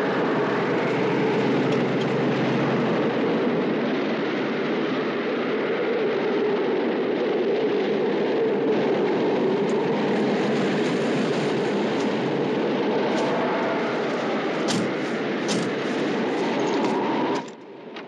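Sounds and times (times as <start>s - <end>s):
strong blizzard wind: 0.0s - 18.0s.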